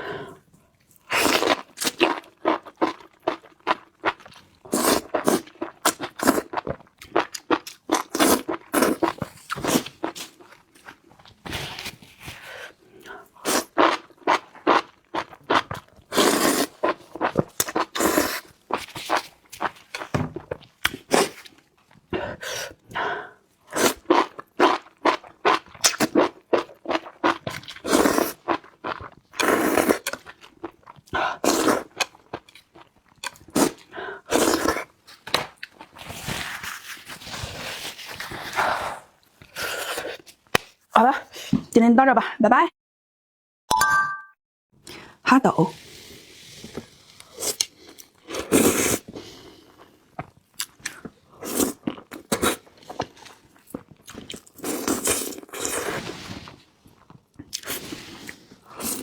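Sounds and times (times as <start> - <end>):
person chewing and crunching food: 0.8 - 40.8, 45.8 - 59.0.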